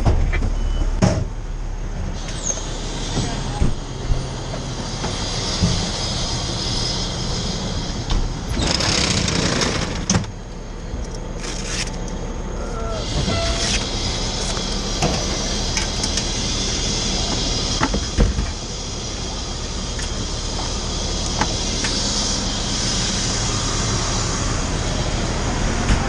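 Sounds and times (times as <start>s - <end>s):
fire engine running: 0.0s - 26.0s.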